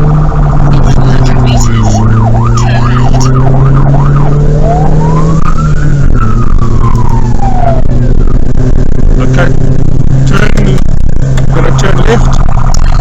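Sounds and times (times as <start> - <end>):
emergency vehicle siren: 0.0 - 10.2, 10.9 - 13.0
vehicle engine drone: 0.0 - 13.0.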